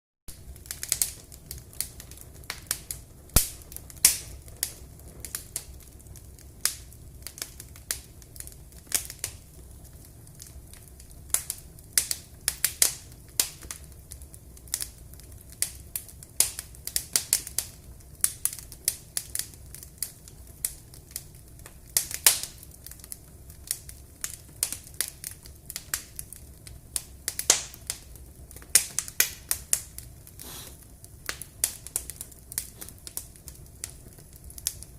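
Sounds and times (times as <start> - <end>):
wood fire crackling: 0.3 - 34.9.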